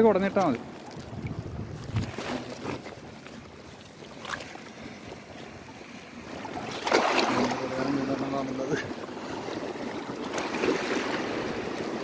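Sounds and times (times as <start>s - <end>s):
shallow water sloshing and splashing: 0.0s - 12.0s.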